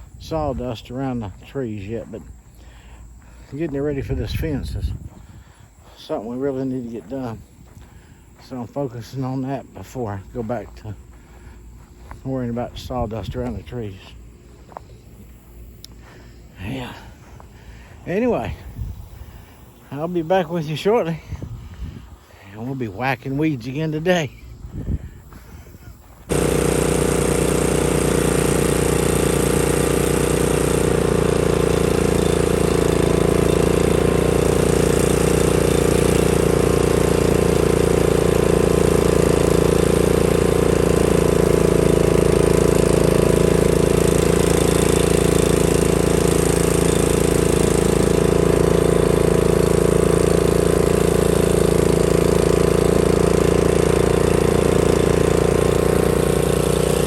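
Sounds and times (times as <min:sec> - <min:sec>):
mowing machine engine running: 0:00.0 - 0:25.2, 0:26.0 - 0:57.0.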